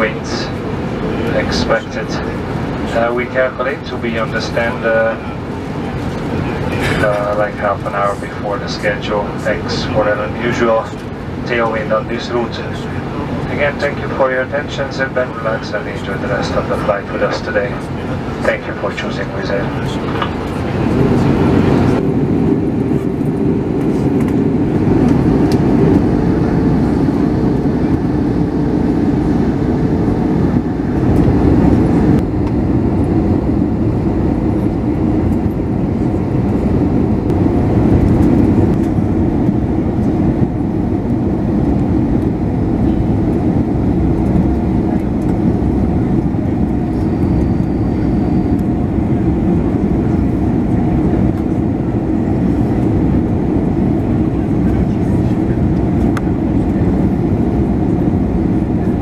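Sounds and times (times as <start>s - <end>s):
airliner cabin engine roar: 0.0s - 59.0s.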